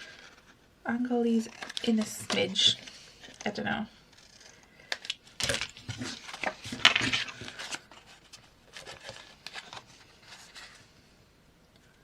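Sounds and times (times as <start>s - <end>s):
paper and card rustling: 1.3s - 10.9s.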